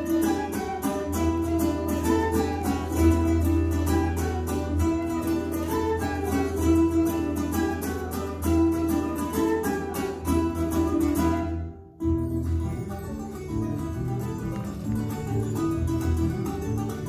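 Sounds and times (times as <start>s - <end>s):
plucked small stringed instruments: 0.0s - 17.0s.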